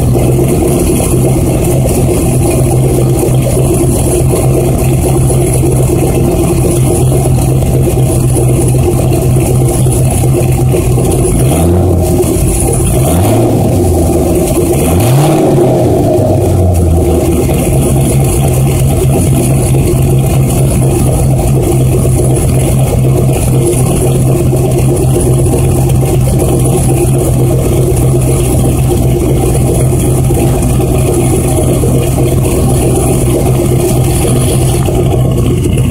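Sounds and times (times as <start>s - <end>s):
loud engine idling and revving: 0.0s - 35.9s.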